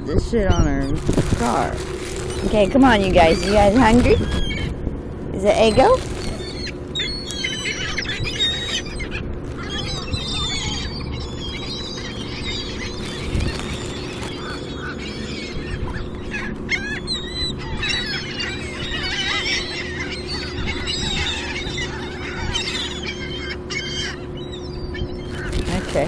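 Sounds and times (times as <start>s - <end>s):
seagulls calling: 0.0s - 26.0s
steady low hum: 0.0s - 26.0s.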